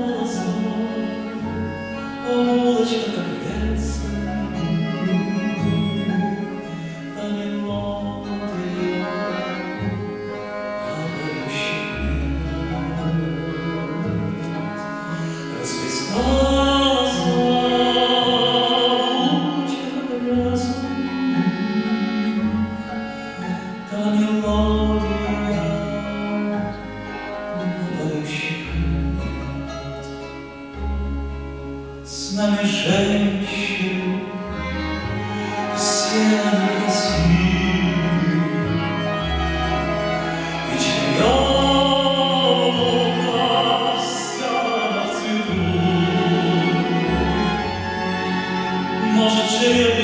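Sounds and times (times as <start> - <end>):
man singing into a microphone: 0.0 - 9.9, 10.5 - 30.0, 32.0 - 34.8, 35.4 - 47.8, 48.9 - 50.0
classical guitar: 0.0 - 50.0
plucked double bass: 0.0 - 50.0
violin: 0.0 - 50.0.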